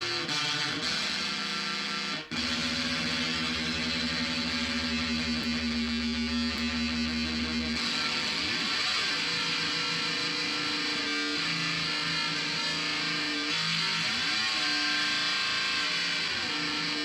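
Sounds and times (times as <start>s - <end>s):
ring-modulated electric guitar notes: 0.0s - 17.0s.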